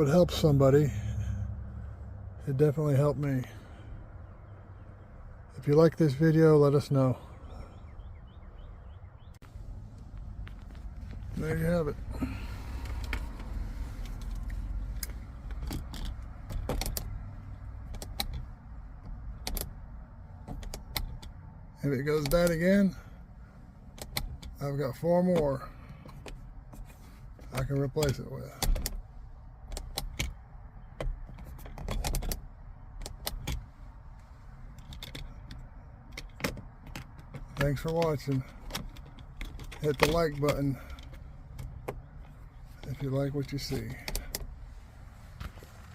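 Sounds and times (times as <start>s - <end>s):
low steady rumble: 0.0s - 45.9s.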